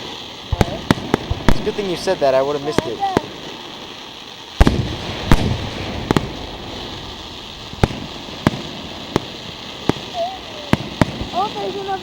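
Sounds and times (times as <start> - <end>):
firework cracks: 0.0 - 12.0
firework shells booming: 0.0 - 12.0.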